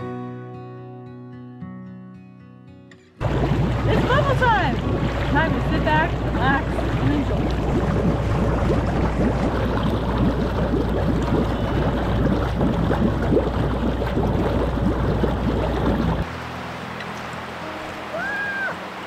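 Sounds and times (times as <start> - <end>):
hot tub jets bubbling: 3.2 - 19.0
low pump hum: 3.2 - 19.0.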